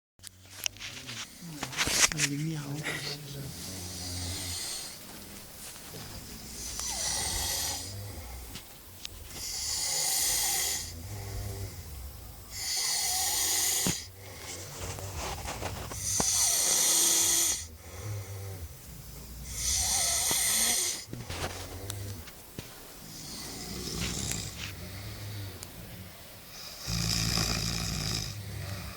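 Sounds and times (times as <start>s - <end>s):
people snoring: 0.2s - 28.9s.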